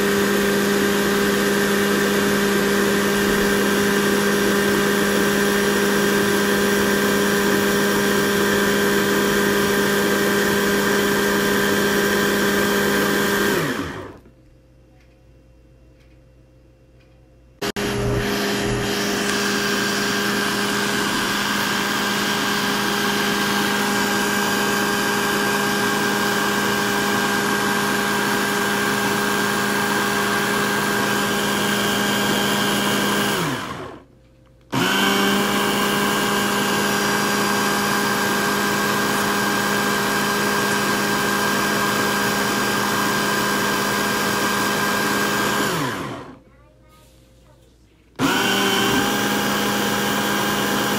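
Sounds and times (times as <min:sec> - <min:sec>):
blender motor running: 0:00.0 - 0:14.2, 0:17.6 - 0:34.1, 0:34.7 - 0:46.4, 0:48.2 - 0:50.9.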